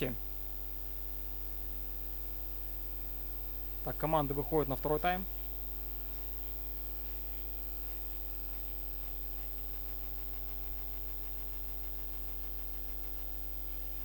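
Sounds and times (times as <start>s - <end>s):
electrical mains hum: 0.0s - 14.0s
high-pitched electrical buzz: 0.0s - 14.0s.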